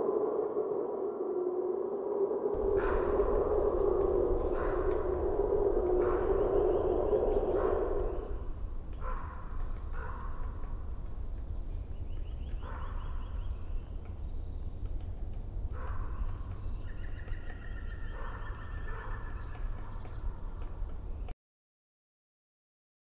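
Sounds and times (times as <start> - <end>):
steady low rumble: 0.0 - 21.2
birds calling: 2.6 - 21.3.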